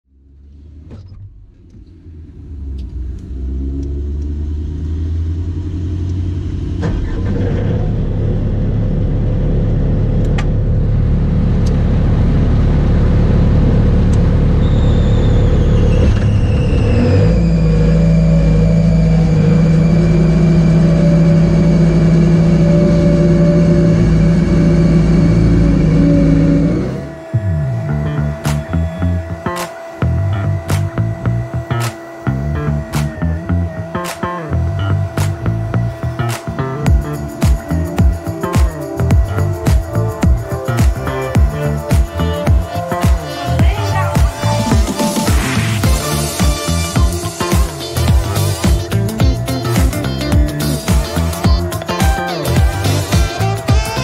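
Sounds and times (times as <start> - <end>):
diesel engine running: 0.1 - 54.0
high whine: 0.2 - 54.0.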